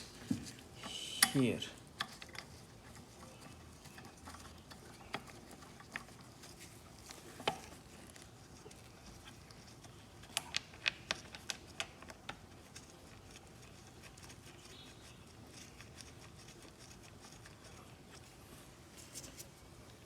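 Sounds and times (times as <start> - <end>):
faint handling noise: 0.0 - 14.0, 17.5 - 20.0.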